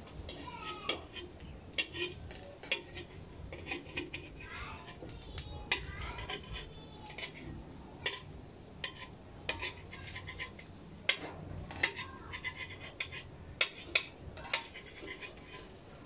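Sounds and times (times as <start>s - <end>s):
metal spatula clinking on pan: 0.3s - 15.7s.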